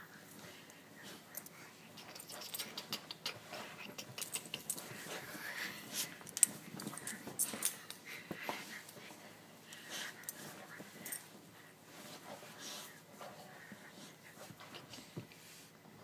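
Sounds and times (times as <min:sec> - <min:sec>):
small clicks and rustles: 0:00.3 - 0:15.4.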